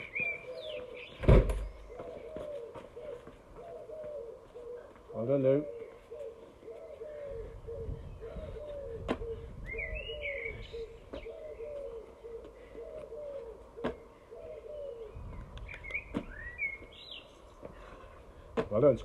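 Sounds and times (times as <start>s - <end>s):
dove cooing: 0.0s - 1.2s, 1.8s - 16.7s.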